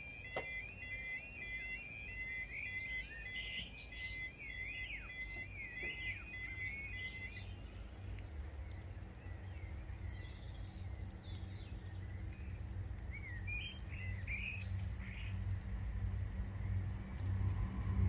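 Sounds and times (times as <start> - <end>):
small birds chirping: 0.0 - 17.3
steady low rumble: 0.0 - 18.0.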